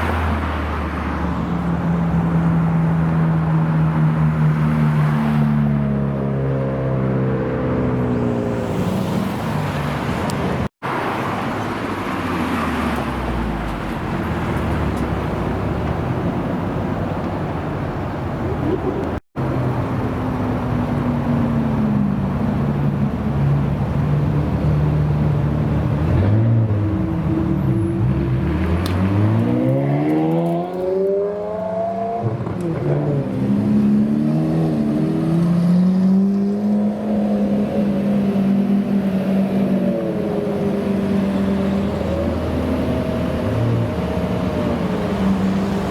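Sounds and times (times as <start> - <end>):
car engines running: 0.0 - 45.9
traffic noise: 0.0 - 45.9.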